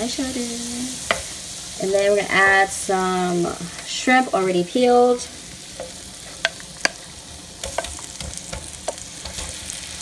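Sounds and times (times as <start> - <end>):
shrimp sizzling in butter: 0.0 - 10.0.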